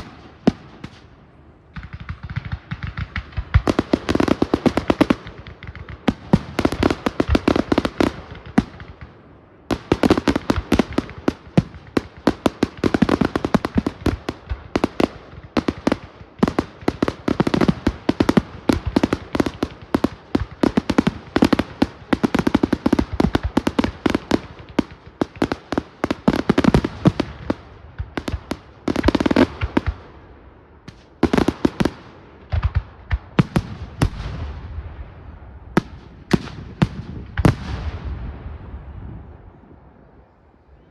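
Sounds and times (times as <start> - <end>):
fireworks banging and crackling: 0.0 - 38.6.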